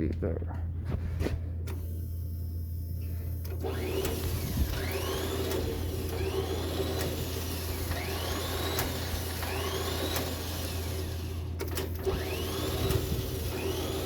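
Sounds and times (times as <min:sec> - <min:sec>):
whirring with whine: 0:00.5 - 0:14.0.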